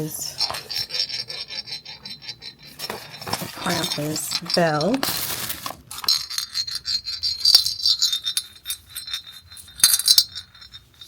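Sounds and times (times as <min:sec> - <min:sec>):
bell jingling: 0:00.2 - 0:05.2, 0:06.0 - 0:11.0.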